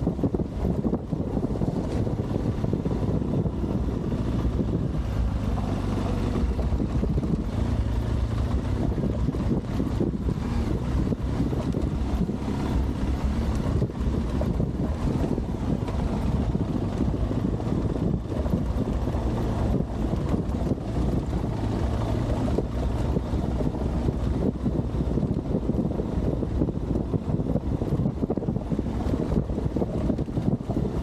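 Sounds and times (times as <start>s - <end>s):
motorcycle engine running: 0.0s - 31.0s
wind noise on microphone: 0.0s - 31.0s.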